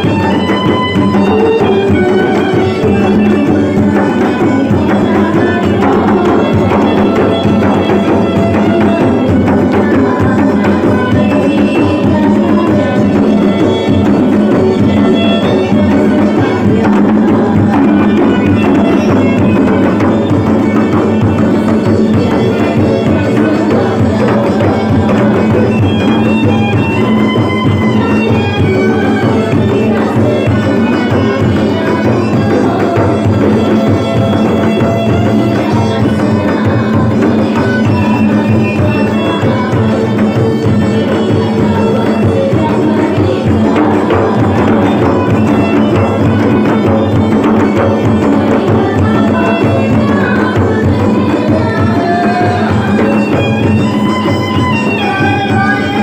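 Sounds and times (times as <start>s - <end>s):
hand drums beating: 0.0s - 56.0s.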